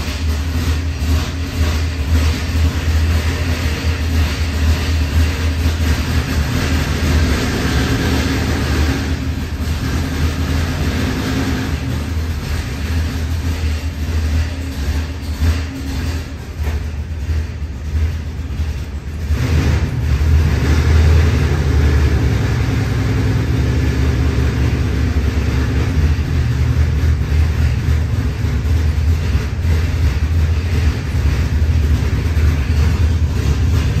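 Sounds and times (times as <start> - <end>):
engine running at fast idle: 0.0 - 34.0.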